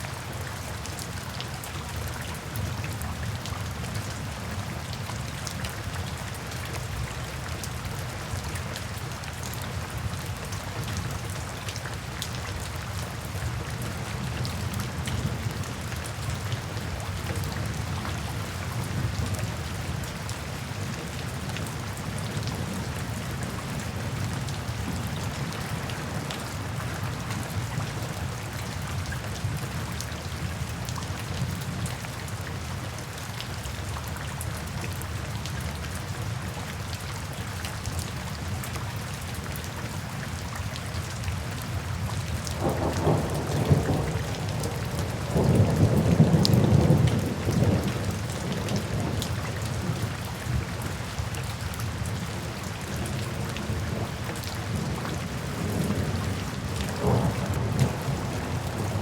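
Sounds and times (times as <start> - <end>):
rain falling: 0.0 - 59.0
raindrops ticking on surfaces: 0.0 - 59.0.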